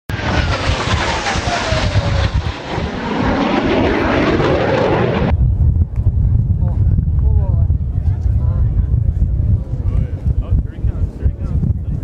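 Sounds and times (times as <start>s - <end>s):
jet engine whine: 0.1s - 12.0s
low rumble: 0.1s - 12.0s.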